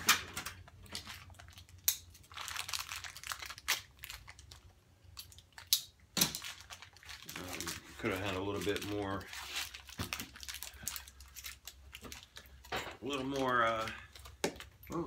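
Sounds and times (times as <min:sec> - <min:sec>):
packaging crinkling: 0:00.6 - 0:14.8.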